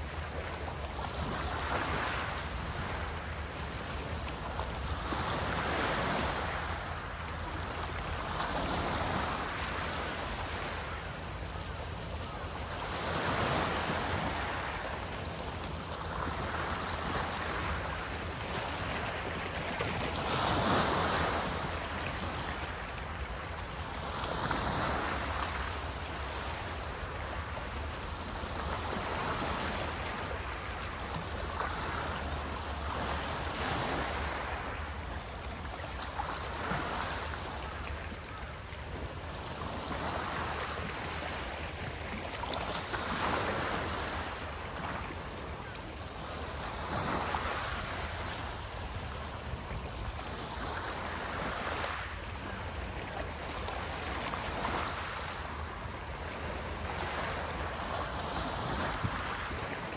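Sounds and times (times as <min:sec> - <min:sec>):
waves washing on shore: 0:00.0 - 0:59.9.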